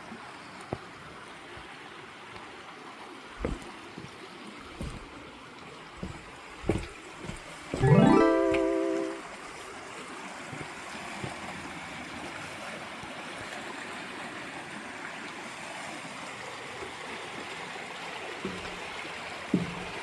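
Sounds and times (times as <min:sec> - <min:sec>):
stream water rushing and babbling: 0:00.0 - 0:20.0.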